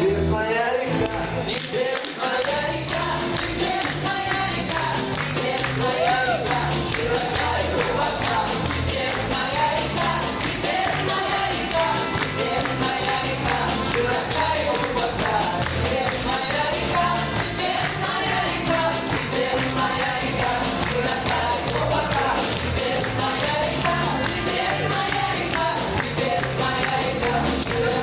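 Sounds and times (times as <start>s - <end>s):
steady bass line: 0.0s - 1.5s, 2.6s - 28.0s
singing over a band: 0.0s - 28.0s.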